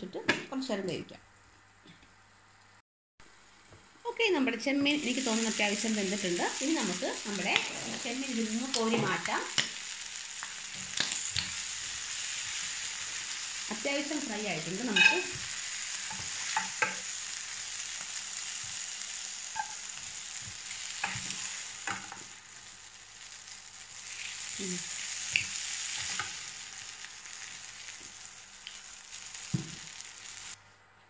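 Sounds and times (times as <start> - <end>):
shrimp sizzling in oil: 3.2 - 30.6.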